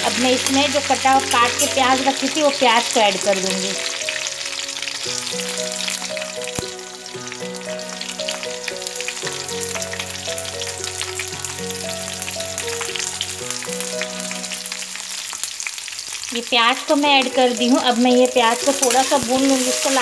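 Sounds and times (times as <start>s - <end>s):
soft instrumental melody: 0.0s - 15.7s, 16.9s - 20.0s
onions sizzling in hot oil: 0.0s - 20.0s.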